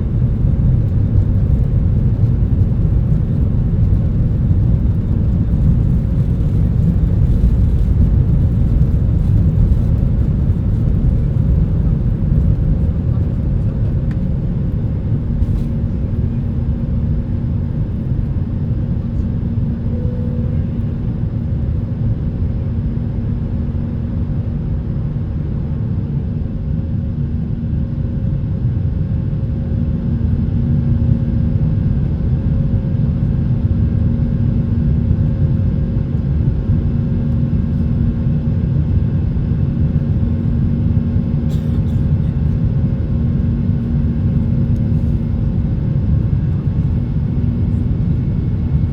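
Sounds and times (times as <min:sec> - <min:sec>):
airplane cabin engine rumble: 0:00.0 - 0:48.9.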